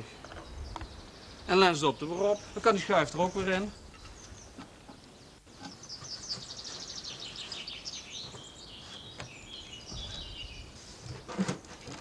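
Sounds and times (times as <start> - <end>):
background hiss: 0.0 - 12.0
songbirds chirping and trilling: 0.0 - 12.0.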